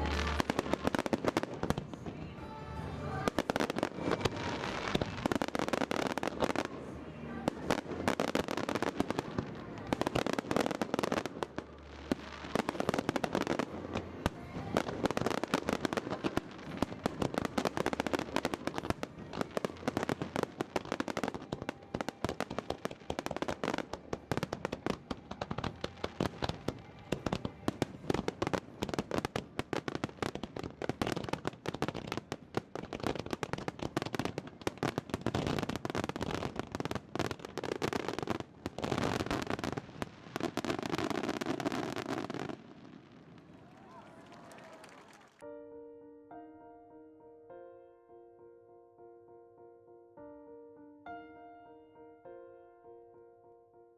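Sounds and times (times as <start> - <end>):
fireworks bursting: 0.0 - 45.4
fireworks crackling: 0.0 - 45.5.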